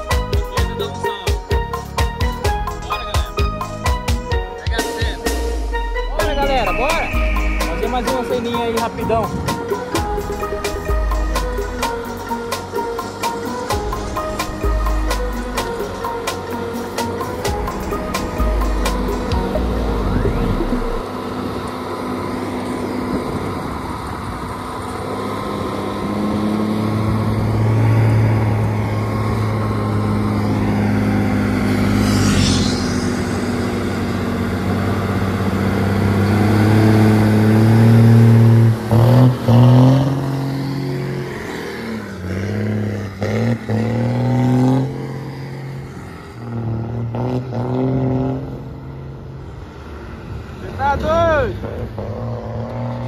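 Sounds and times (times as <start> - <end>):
truck diesel engine running: 0.0 - 45.8.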